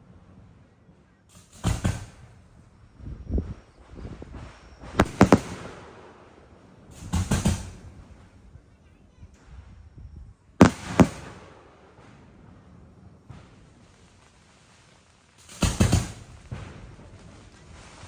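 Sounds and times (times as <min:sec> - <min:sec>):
firework shells bursting: 0:01.3 - 0:09.6, 0:10.6 - 0:18.0.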